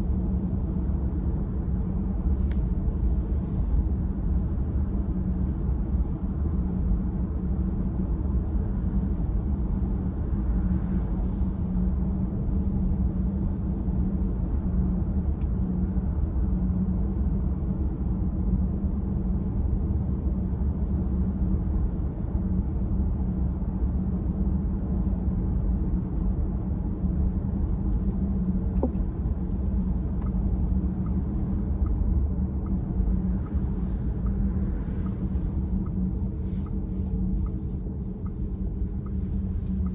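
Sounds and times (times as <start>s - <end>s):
car engine and road rumble: 0.0s - 39.9s
constant hum: 0.0s - 39.9s.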